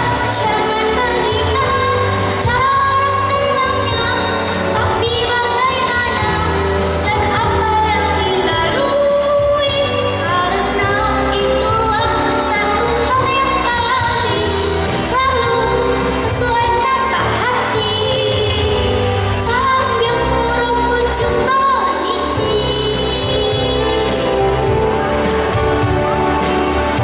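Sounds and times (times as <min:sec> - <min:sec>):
girl singing: 0:00.0 - 0:24.7
pop backing track with beat: 0:00.0 - 0:27.0.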